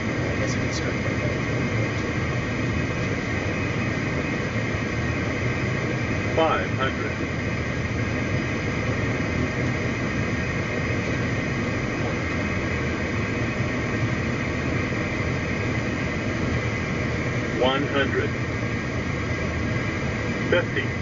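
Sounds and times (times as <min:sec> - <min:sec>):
jet cockpit air and engine noise: 0:00.0 - 0:21.0.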